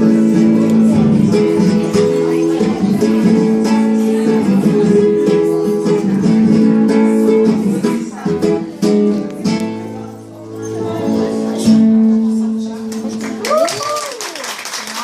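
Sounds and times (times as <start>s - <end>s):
strummed acoustic guitar: 0.0s - 13.5s.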